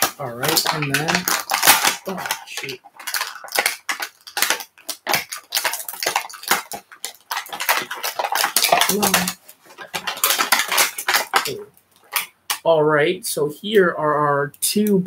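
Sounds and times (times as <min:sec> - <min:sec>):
hard plastic packaging crackling: 0:00.0 - 0:12.7.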